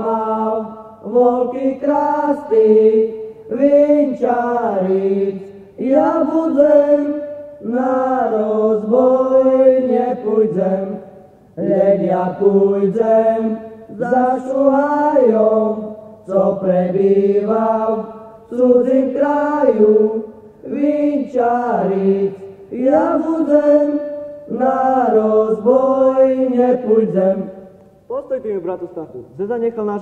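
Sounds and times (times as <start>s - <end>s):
voices singing unaccompanied: 0.0s - 27.8s.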